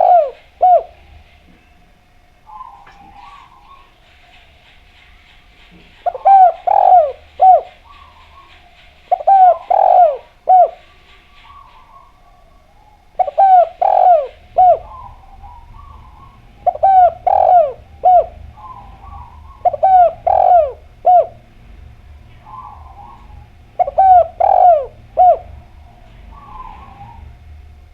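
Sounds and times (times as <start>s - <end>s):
dove cooing: 0.0s - 27.9s
small birds chirping: 0.0s - 27.9s.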